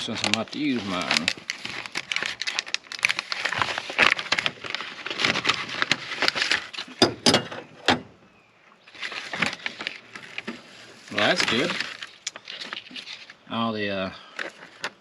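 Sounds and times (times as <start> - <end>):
plastic packaging crackling: 0.0 - 7.3, 8.9 - 13.6, 14.2 - 15.0.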